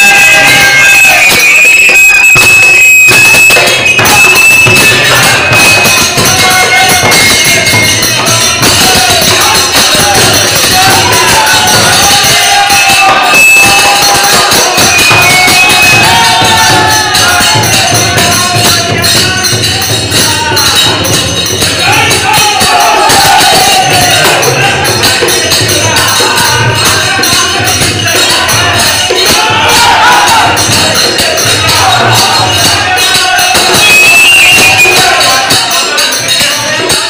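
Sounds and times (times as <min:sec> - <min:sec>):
hand cymbals clashing: 0:00.0 - 0:37.0
men singing in unison: 0:00.0 - 0:37.0.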